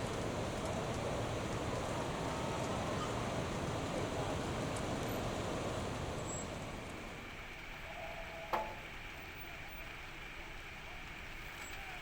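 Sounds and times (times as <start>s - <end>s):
water spraying from fire hoses: 0.0s - 12.0s.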